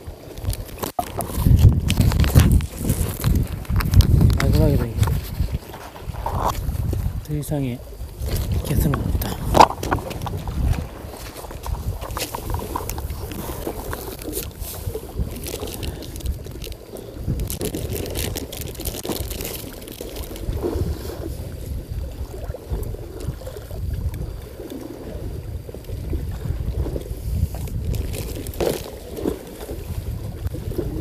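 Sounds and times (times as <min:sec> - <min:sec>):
seawater lapping against breakwater: 0:00.0 - 0:31.0.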